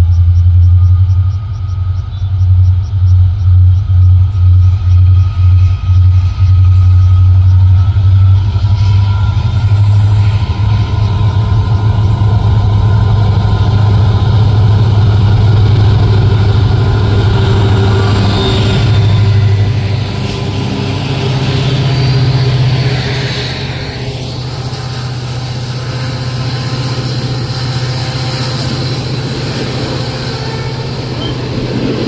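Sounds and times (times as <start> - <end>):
diesel locomotive engine drone: 0.0 - 32.0
thin high whine: 0.0 - 32.0.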